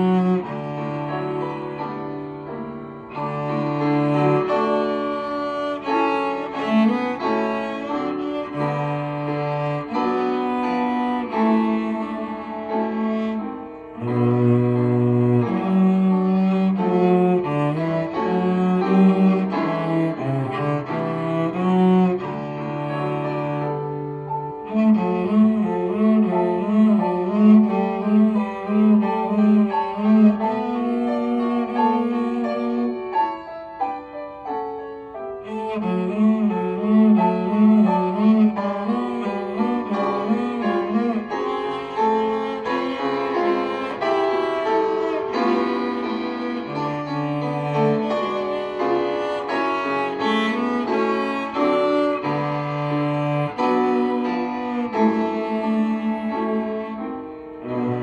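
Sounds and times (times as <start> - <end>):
cello melody with vibrato: 0.0 - 58.0.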